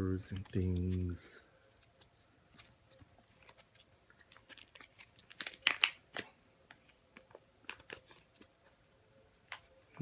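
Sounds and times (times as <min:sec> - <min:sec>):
crinkling of handled objects: 0:00.0 - 0:10.0.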